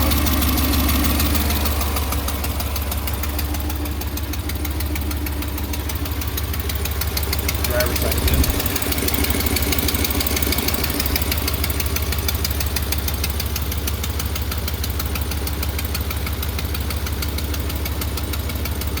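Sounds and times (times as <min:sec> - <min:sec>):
pickup engine idling: 0:00.0 - 0:19.0
rapid engine ticking: 0:00.0 - 0:19.0.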